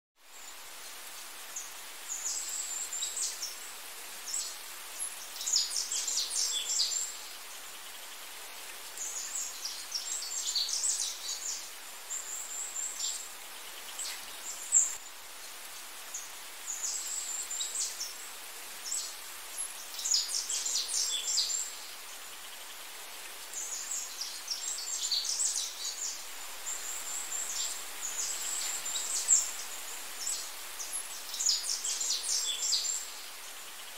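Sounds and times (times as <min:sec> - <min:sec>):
small birds chirping: 0:00.2 - 0:33.9
steady background hiss: 0:00.2 - 0:33.9.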